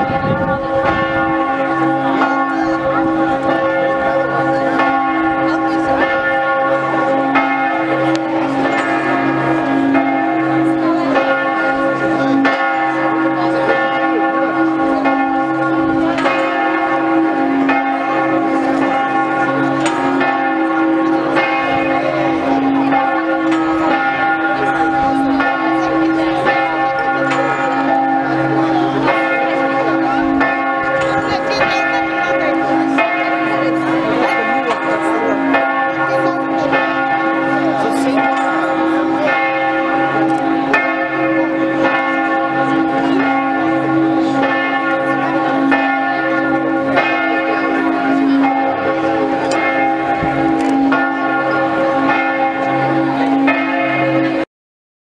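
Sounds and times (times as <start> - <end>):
church bells ringing: 0.0 - 54.5.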